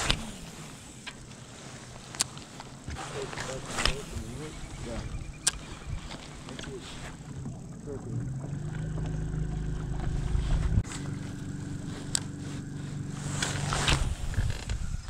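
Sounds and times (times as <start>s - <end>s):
boat motor humming: 0.0s - 15.0s
knocks and scrapes against boat: 0.0s - 15.0s.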